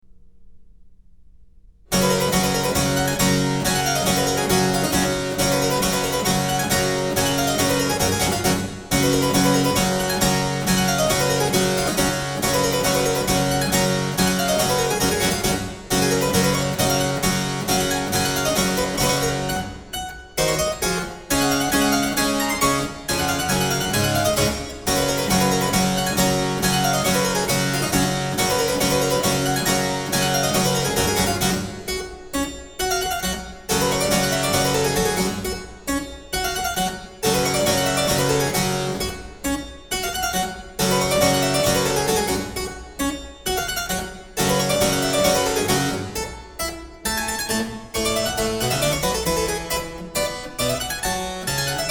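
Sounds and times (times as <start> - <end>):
harpsichord-like keyboard music: 1.9 - 51.9.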